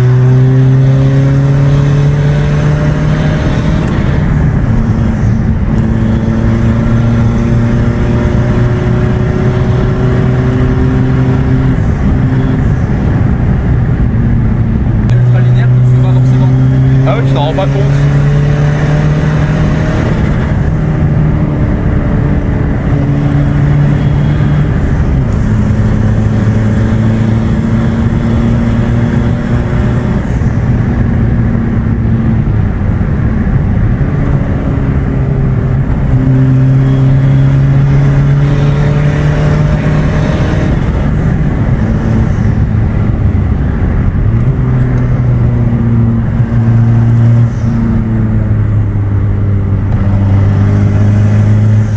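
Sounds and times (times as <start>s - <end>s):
road noise: 0.0s - 51.9s
turbodiesel engine under load: 0.0s - 51.9s.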